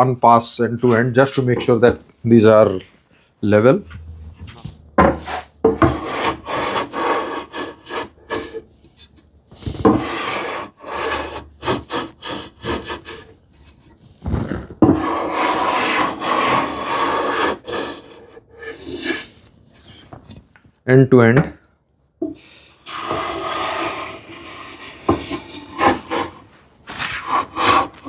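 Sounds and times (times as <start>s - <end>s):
hand plane shaving wood: 0.8s - 2.8s, 3.5s - 13.8s, 14.9s - 20.0s, 22.8s - 28.0s.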